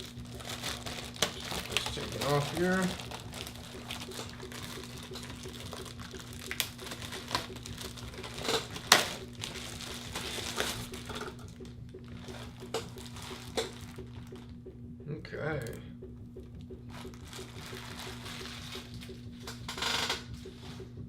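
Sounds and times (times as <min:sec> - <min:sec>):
plastic packaging crinkling: 0:00.0 - 0:14.6, 0:16.8 - 0:20.2
low steady hum: 0:00.0 - 0:21.0
sharp clicks and knocks: 0:01.2 - 0:21.0.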